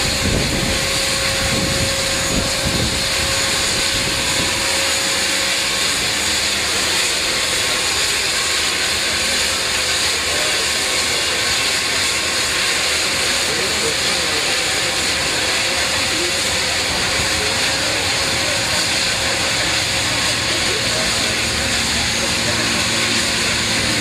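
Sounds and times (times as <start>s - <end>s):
aircraft engines roaring: 0.0s - 24.0s.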